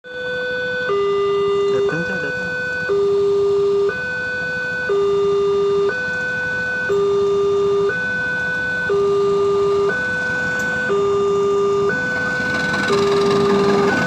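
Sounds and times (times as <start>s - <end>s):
level crossing two-tone alarm: 0.1s - 14.0s.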